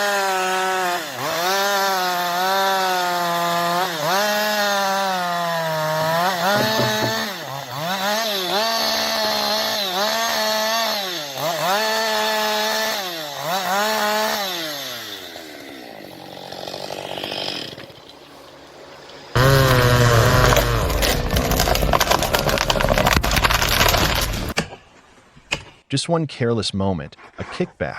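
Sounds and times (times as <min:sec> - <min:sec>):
chainsaw cutting wood: 0:00.0 - 0:24.7.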